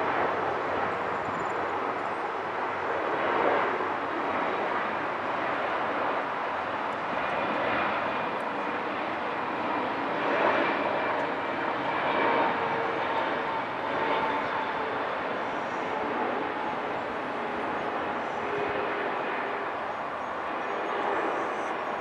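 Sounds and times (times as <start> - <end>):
jet engines rushing overhead: 0.0 - 22.0.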